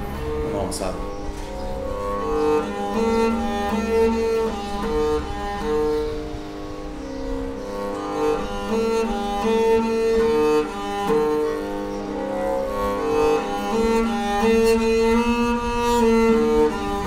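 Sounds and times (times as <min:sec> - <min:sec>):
cello playing slow melody: 0:00.0 - 0:17.0.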